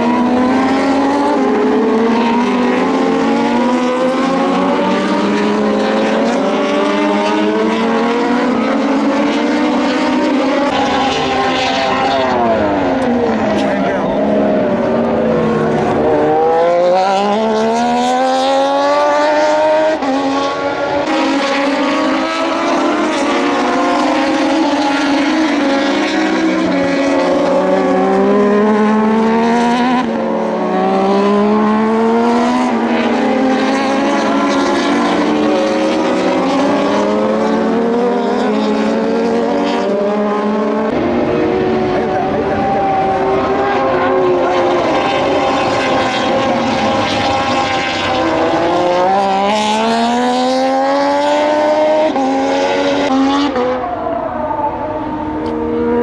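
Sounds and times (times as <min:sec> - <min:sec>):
racing motorcycles passing: 0:00.0 - 0:56.0.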